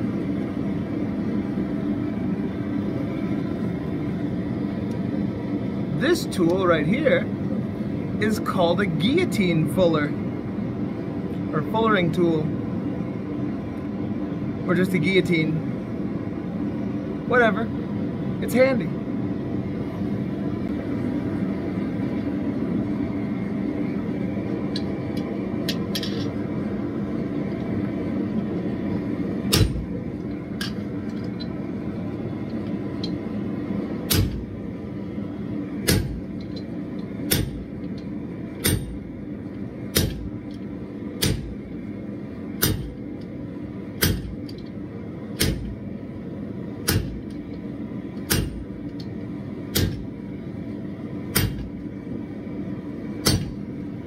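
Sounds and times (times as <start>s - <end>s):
gas forge burner roaring: 0.0s - 54.0s.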